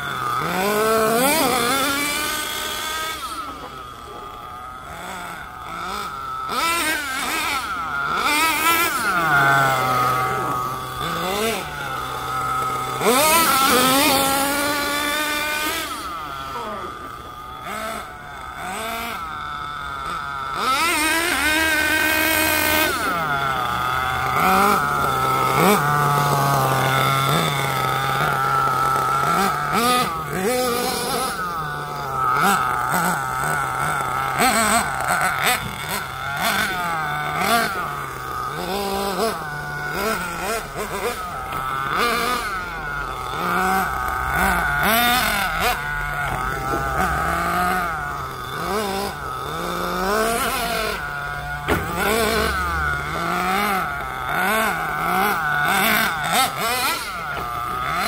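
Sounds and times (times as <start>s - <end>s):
rc truck motor revving: 0.0s - 58.0s.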